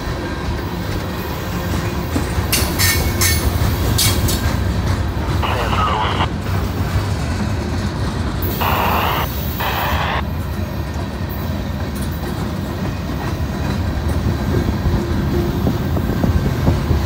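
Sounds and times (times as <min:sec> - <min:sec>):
train wheels rumbling on rail: 0:00.0 - 0:09.6, 0:10.2 - 0:17.0.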